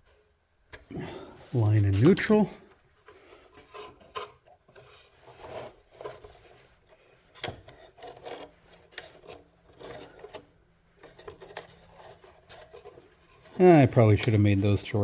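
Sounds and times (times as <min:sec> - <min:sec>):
scraping and rubbing handling noise: 0:01.0 - 0:15.0.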